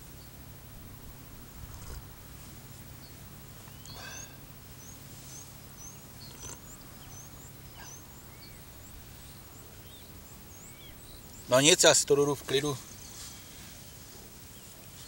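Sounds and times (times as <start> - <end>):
steady low hum: 0.0 - 15.0
small birds chirping: 1.4 - 15.0.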